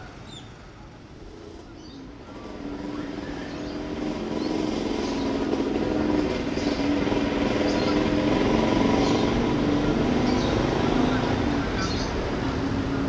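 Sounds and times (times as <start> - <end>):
motorcycle engines pulling away: 1.2 - 13.0.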